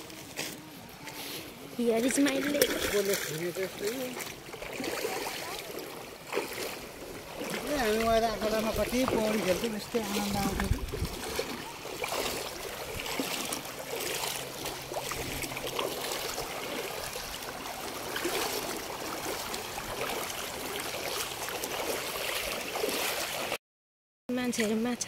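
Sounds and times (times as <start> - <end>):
feet wading through water: 0.0 - 23.6.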